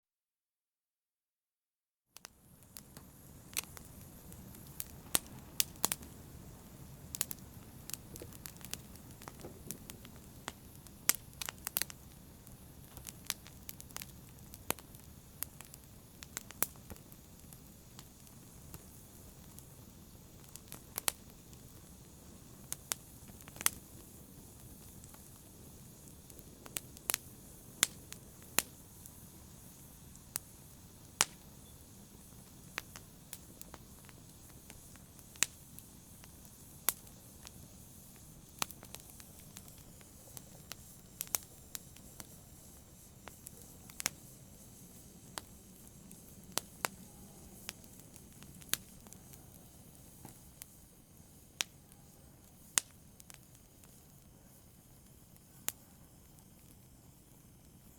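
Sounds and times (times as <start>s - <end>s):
logs crackling and popping: 2.2s - 50.8s, 52.5s - 53.9s
fire rumbling: 2.3s - 57.9s.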